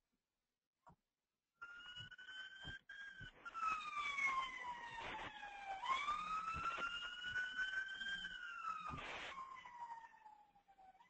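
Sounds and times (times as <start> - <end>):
emergency vehicle siren wailing: 1.6 - 11.0.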